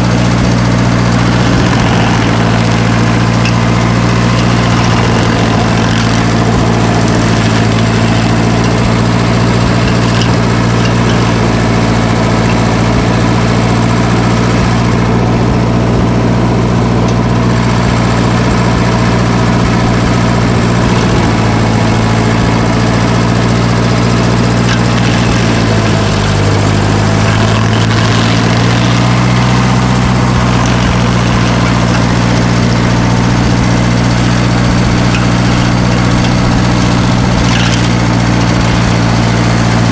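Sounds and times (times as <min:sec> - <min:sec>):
heavy equipment engine running: 0:00.0 - 0:39.9.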